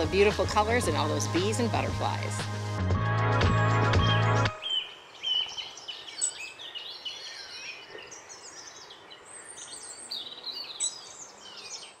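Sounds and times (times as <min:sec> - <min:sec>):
songbirds chirping: 0:00.0 - 0:02.8, 0:03.7 - 0:12.0.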